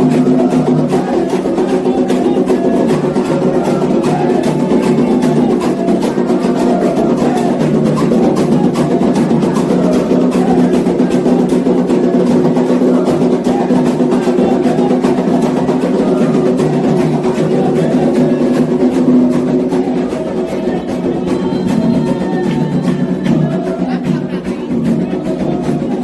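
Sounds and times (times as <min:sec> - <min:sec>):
drums beaten in steady rhythm: 0:00.0 - 0:26.0.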